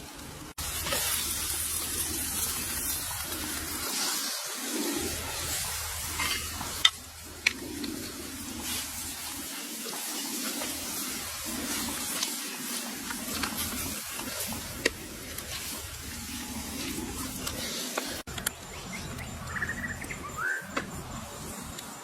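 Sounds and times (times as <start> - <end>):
food sizzling in a pan: 0.2 - 18.3.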